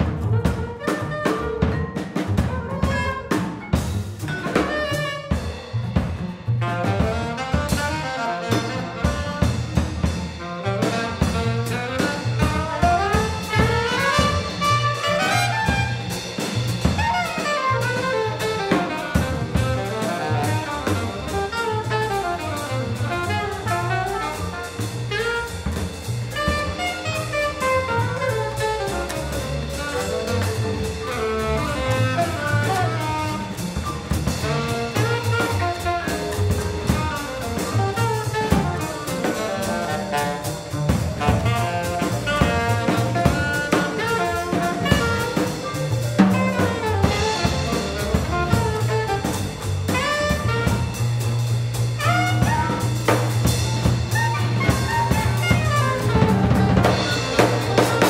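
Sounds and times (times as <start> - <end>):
double bass notes: 0.0 - 58.0
drum kit hits: 0.0 - 58.0
horns playing melody: 2.6 - 3.6, 4.2 - 5.7, 6.6 - 58.0.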